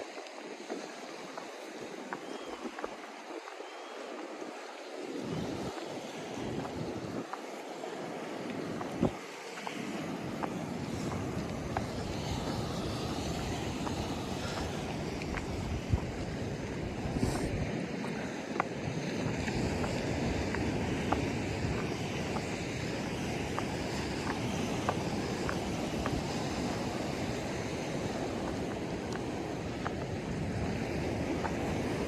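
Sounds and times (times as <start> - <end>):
surf washing on shore: 0.0 - 32.0
wind buffeting microphone: 0.1 - 32.0.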